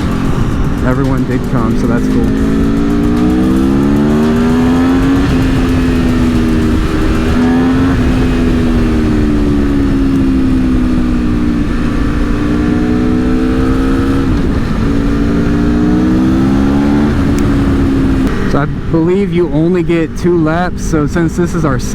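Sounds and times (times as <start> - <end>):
motorcycle engine accelerating: 0.0 - 21.9
wind noise rumble: 0.0 - 21.9.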